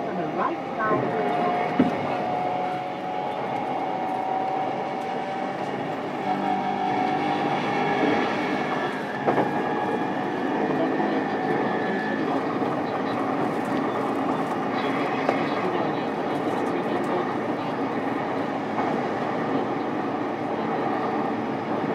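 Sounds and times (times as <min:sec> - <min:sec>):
wheel-on-rail rumble: 0:00.0 - 0:21.9.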